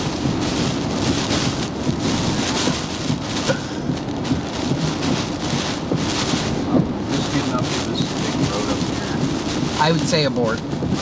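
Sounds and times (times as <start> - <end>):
low rumble: 0.0 - 11.0
wind-driven rain pelting vehicle: 0.0 - 11.0.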